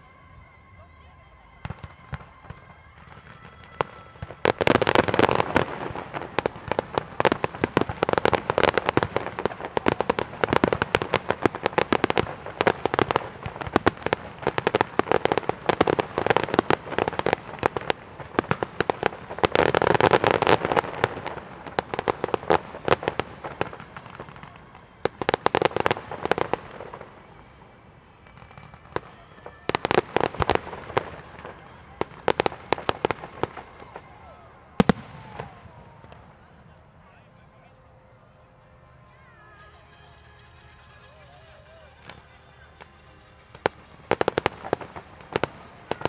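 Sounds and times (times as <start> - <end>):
fireworks bursting and crackling: 0.0 - 46.0.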